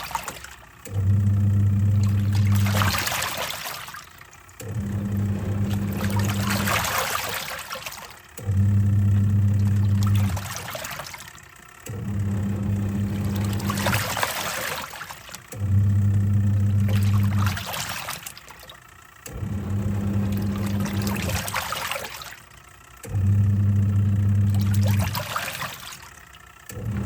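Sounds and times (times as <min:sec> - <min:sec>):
washing machine motor humming: 0:00.0 - 0:27.0
water swishing in tub: 0:00.0 - 0:27.0.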